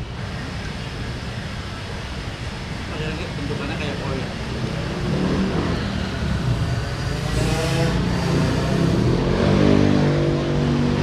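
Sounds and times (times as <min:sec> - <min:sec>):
vehicle engines passing: 0:00.0 - 0:11.0.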